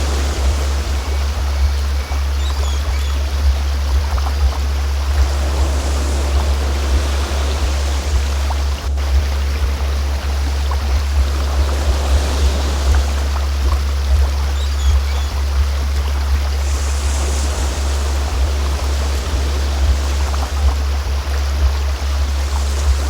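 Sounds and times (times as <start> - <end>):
flowing stream: 0.0 - 23.0
steady deep tone: 0.0 - 23.0.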